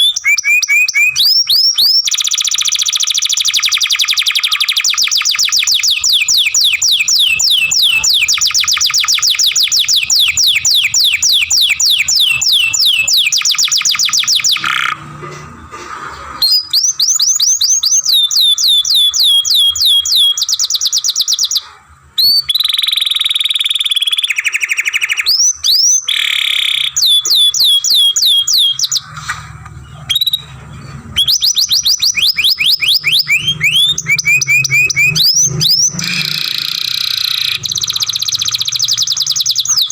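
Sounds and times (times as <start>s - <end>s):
canary singing trills: 0.0s - 15.1s, 16.4s - 29.2s, 29.8s - 39.9s.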